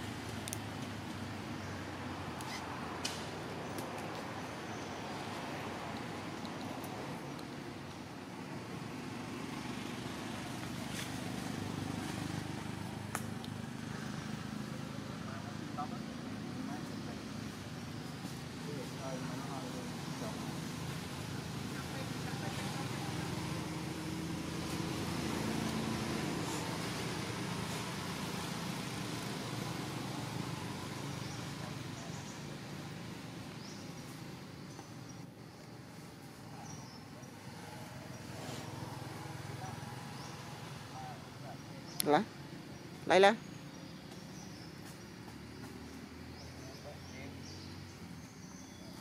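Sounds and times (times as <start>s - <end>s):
outdoor background noise: 0.0s - 49.0s.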